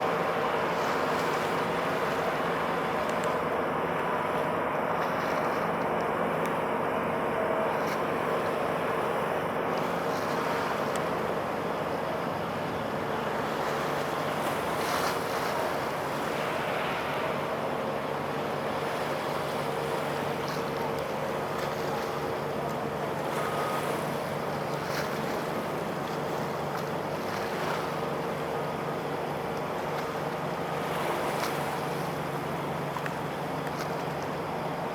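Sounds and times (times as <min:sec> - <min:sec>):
ship engine drone: 0:00.0 - 0:34.9
wind and water wash: 0:00.0 - 0:34.9.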